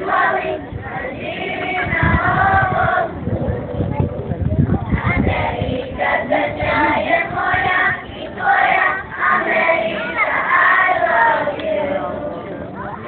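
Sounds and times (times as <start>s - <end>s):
children singing together: 0.0s - 3.2s, 5.0s - 12.5s.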